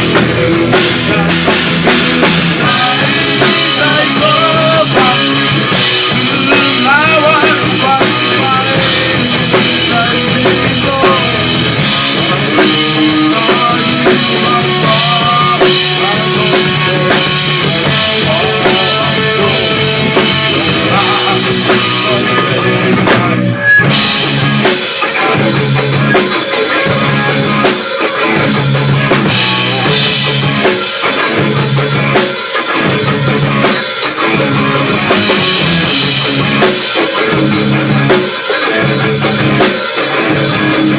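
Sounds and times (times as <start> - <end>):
rock music with drum kit: 0.0 - 40.9.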